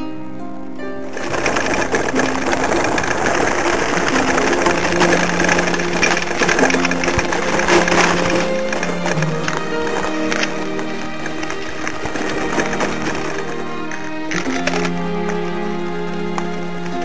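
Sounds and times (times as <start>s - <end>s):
plucked-string background music: 0.0s - 17.0s
mountain bike rattling over stones: 0.3s - 17.0s.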